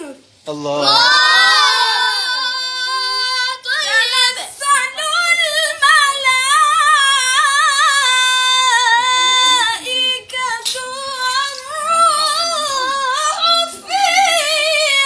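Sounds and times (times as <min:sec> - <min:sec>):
child chanting recitation: 0:00.8 - 0:15.0.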